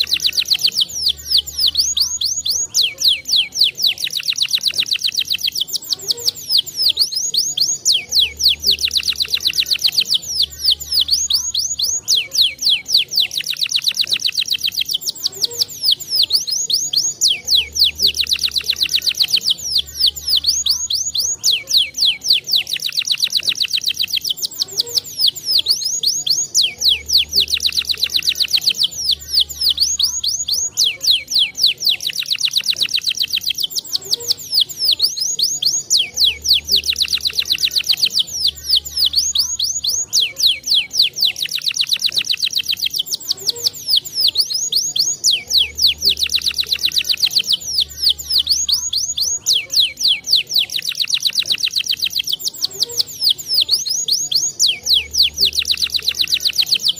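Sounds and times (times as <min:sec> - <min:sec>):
canary singing fast trills: 0:00.0 - 0:56.9.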